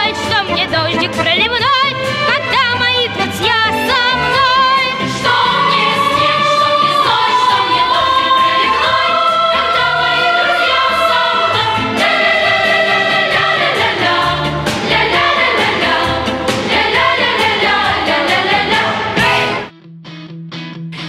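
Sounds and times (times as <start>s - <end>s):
song with vocals and instruments: 0.0s - 19.7s.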